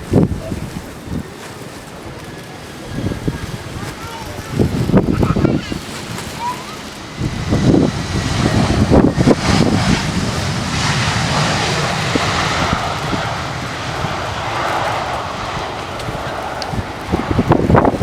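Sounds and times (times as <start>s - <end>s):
jet engines rushing: 0.0s - 18.0s
wind buffeting microphone: 0.0s - 18.0s.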